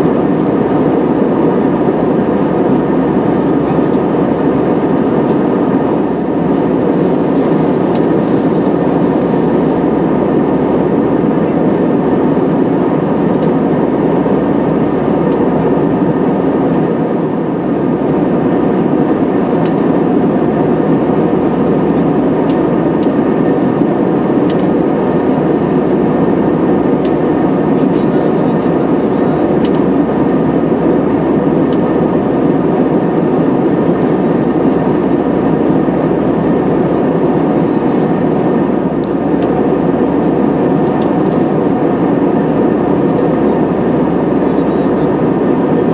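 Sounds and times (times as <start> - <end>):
jet engine cabin drone: 0.0 - 45.9.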